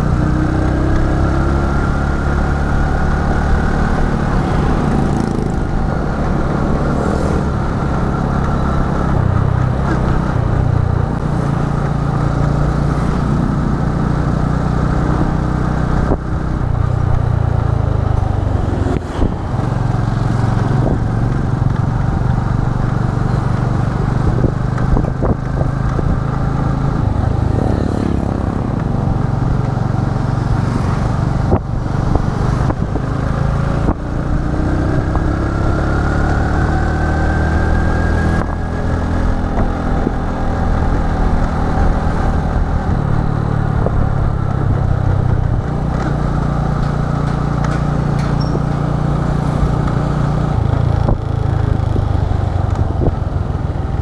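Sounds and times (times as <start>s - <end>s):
scooter engine running: 0.0s - 37.2s, 38.9s - 54.0s.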